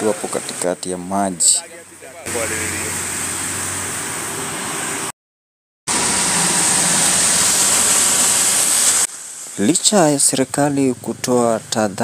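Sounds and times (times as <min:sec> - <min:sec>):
floodwater rushing: 0:00.0 - 0:05.1, 0:05.9 - 0:12.0
traffic: 0:00.0 - 0:05.1, 0:05.9 - 0:12.0
vehicle engine hum: 0:00.0 - 0:05.1, 0:05.9 - 0:12.0.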